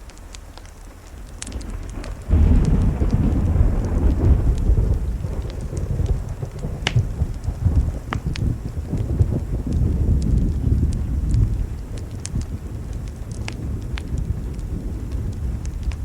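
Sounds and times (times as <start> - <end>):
low thunder rumbling: 0.0 - 16.0
steady rain: 0.0 - 16.0
wood fire crackling: 0.0 - 16.0.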